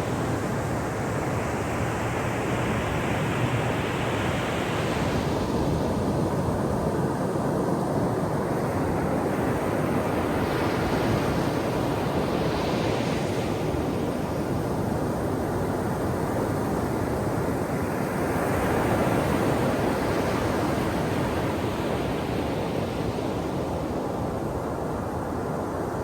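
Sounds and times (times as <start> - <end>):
waves breaking and washing: 0.0 - 26.0.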